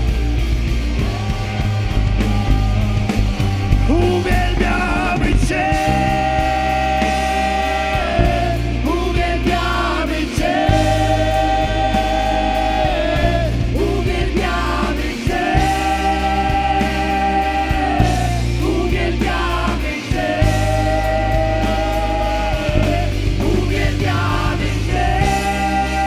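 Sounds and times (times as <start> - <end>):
rock-style worship band playing: 0.0 - 26.0
steady bass line: 0.0 - 26.0.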